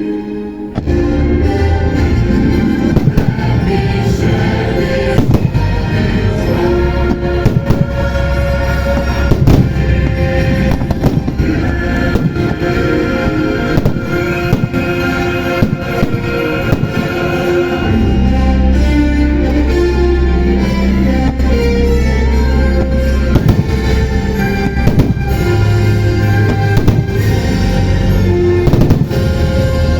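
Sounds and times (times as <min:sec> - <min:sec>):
loud show music: 0:00.0 - 0:29.9
fireworks bangs and crackles: 0:00.7 - 0:19.8, 0:20.6 - 0:29.9.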